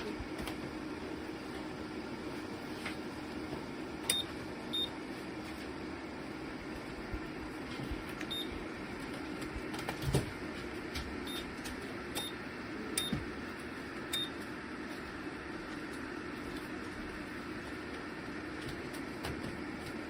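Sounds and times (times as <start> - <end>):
fan heater blowing: 0.0 - 20.0.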